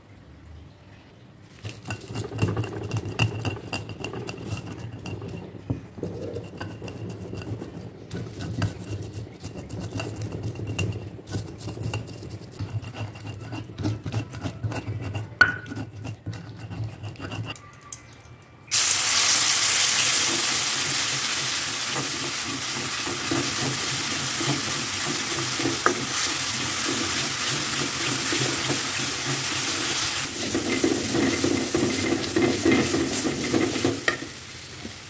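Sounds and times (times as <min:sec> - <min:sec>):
stone pestle grinding on mortar: 0:01.6 - 0:17.6, 0:20.5 - 0:34.3.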